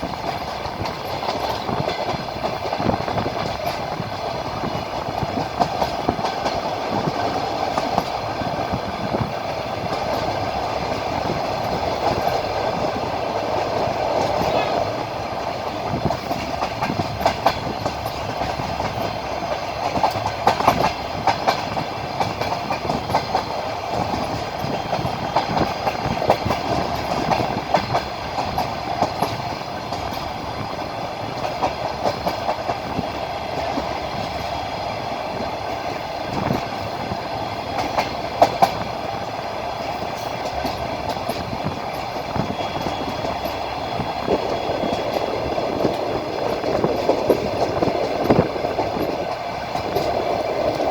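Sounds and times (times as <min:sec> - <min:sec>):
train rumbling on track: 0:00.0 - 0:50.9
wheels clacking over rail joints: 0:00.0 - 0:50.9.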